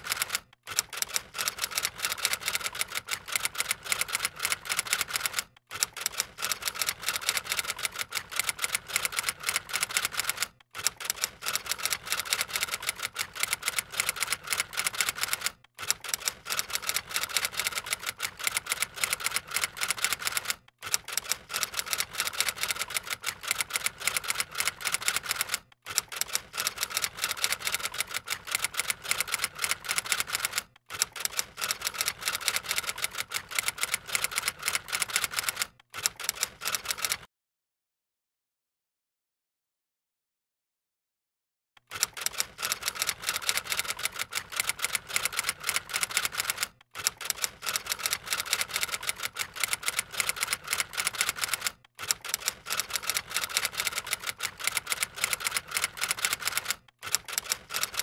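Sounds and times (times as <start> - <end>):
typewriter keystroke clicks: 0.0 - 37.2, 41.8 - 58.0.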